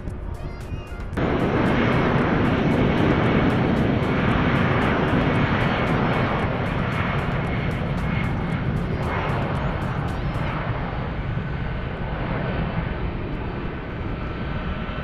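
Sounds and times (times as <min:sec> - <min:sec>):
jet engines roaring with whine: 0:01.0 - 0:15.0.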